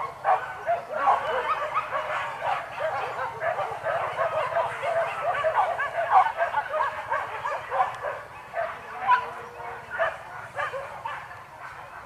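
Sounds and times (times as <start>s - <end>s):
dogs baying and yelping: 0.0s - 12.0s.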